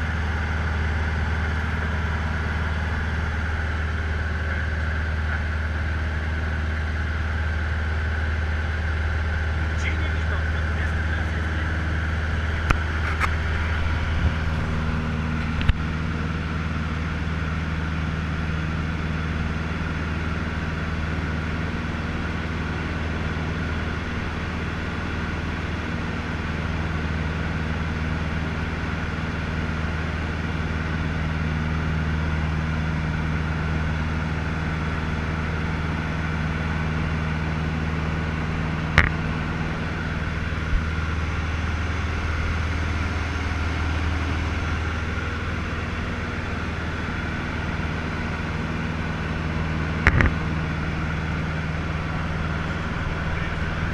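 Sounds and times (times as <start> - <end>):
aircraft piston engine drone: 0.0 - 53.9.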